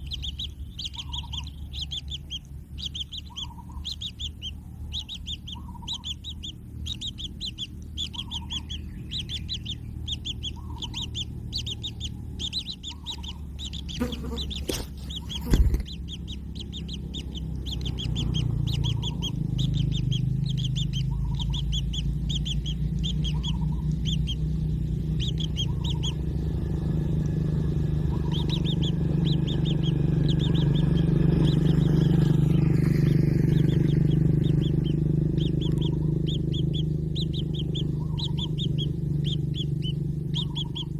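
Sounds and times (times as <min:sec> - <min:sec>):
bird chicks chirping: 0:00.0 - 0:40.9
steady low hum: 0:00.0 - 0:40.9.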